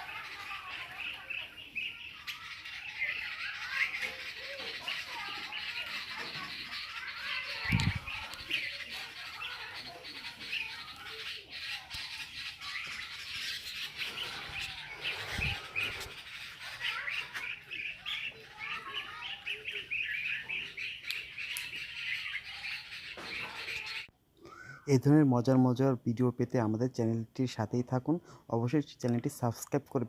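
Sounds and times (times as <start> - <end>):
birds squawking: 0.0 - 24.1.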